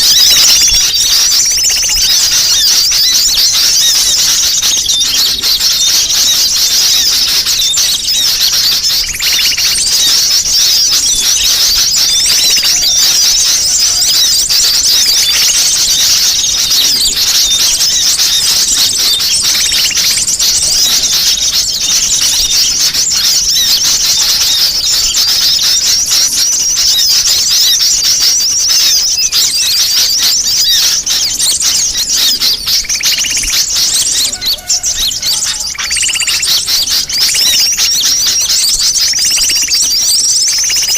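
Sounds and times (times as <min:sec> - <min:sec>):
chorus of sunbird calls: 0:00.0 - 0:40.9.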